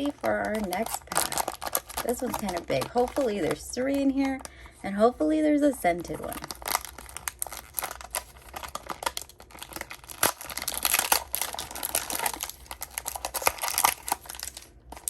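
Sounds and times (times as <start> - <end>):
plastic packaging crinkling and tearing: 0.0 - 4.8, 6.0 - 15.0.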